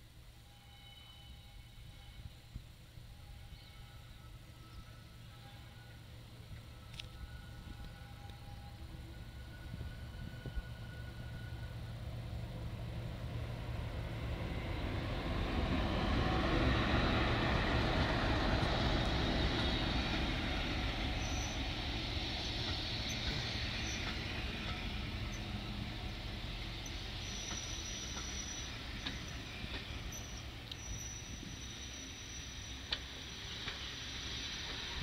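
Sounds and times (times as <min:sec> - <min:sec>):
diesel locomotive engine under load: 0:00.4 - 0:35.0
coaches rolling on rails: 0:05.8 - 0:35.0.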